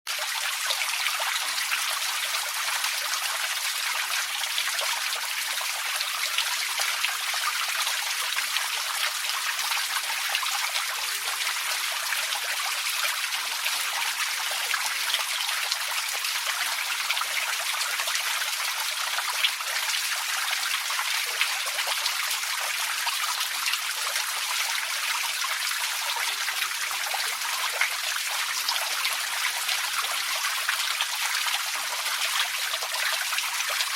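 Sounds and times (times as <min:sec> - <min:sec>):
fountain water trickling and splashing: 0:00.1 - 0:33.9.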